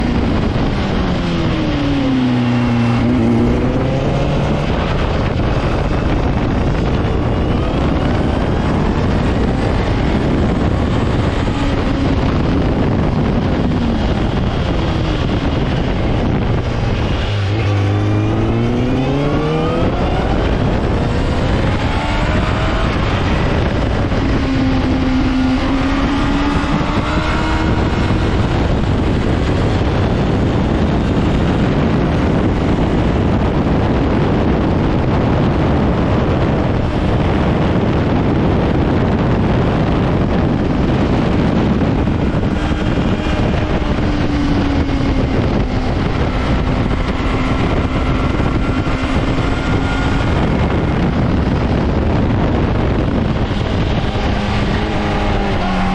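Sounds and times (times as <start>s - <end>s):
motorcycle engine humming: 0.0s - 55.9s
wind rushing on microphone: 0.0s - 55.9s.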